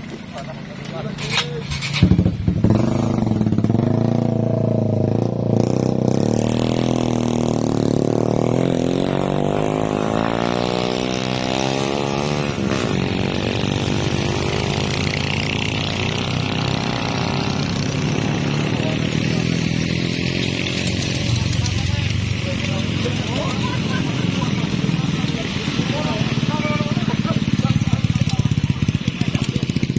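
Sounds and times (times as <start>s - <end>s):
vehicle engine revving: 1.6s - 29.9s.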